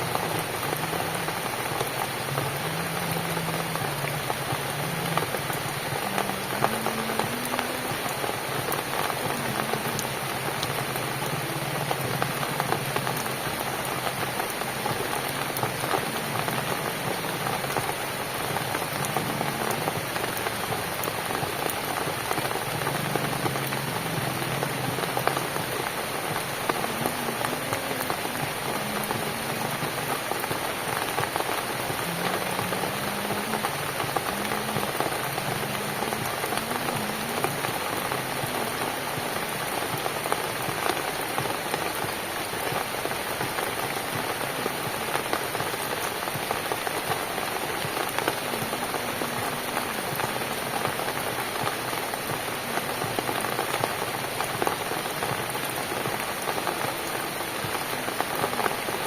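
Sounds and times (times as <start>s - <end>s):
steady rain on a cabin: 0.0s - 59.0s.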